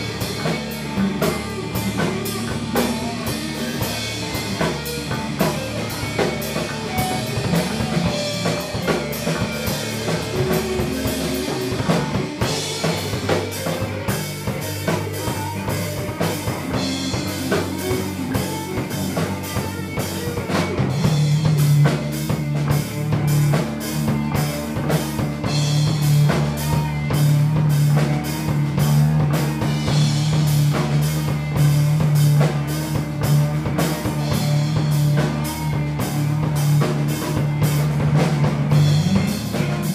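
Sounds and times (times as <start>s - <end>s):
deep held bass tone: 0.0s - 39.9s
drum kit: 0.0s - 39.9s
rock band playing: 0.0s - 39.9s.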